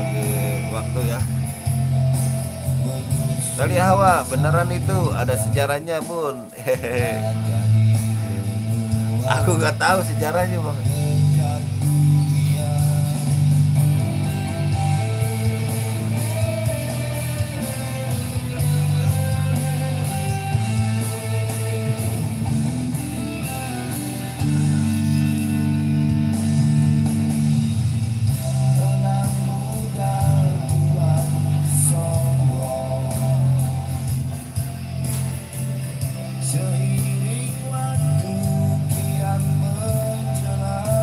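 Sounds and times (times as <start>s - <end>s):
guitar through amplifier: 0.0s - 41.0s.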